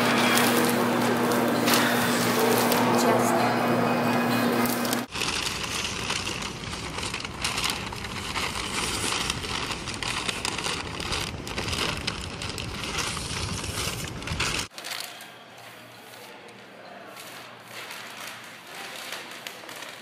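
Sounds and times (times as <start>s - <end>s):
paper crinkling and rustling: 0.0s - 3.3s, 4.6s - 20.0s.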